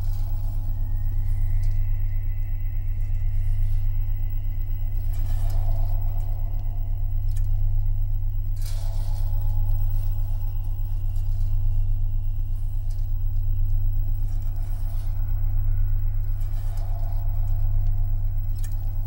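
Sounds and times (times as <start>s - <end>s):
low electronic drone hum: 0.0s - 19.0s.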